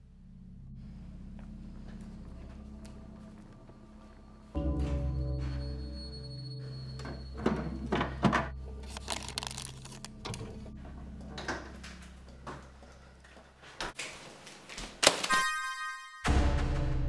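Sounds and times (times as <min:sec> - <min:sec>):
low fridge drone: 0:00.0 - 0:13.8.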